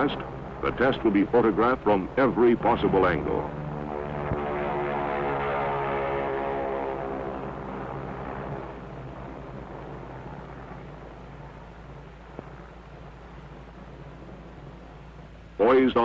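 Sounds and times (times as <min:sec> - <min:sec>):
aircraft engines running: 0:00.0 - 0:16.0
sustained tone: 0:00.0 - 0:16.0.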